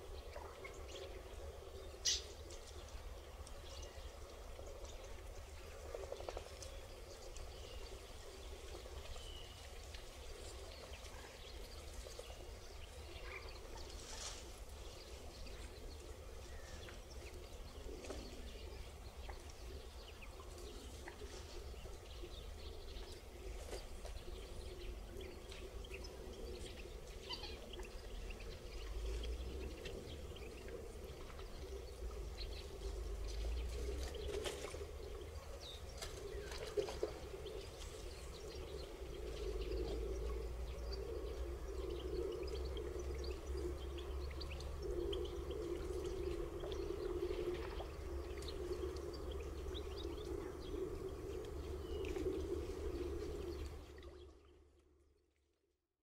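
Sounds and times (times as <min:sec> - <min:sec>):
small birds chirping: 0:00.0 - 0:54.3
low rumble and hum: 0:00.0 - 0:55.1.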